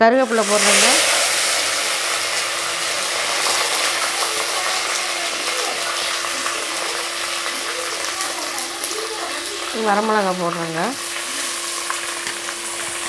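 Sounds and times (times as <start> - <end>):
hot oil sizzling and crackling: 0.1 - 13.0.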